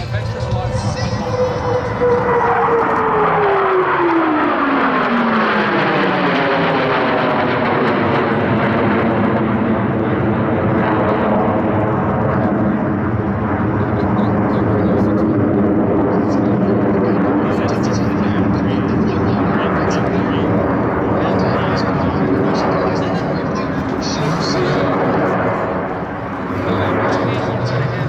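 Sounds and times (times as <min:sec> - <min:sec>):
jets flying past: 0:00.0 - 0:28.0
loud steady jet roar: 0:00.0 - 0:28.0.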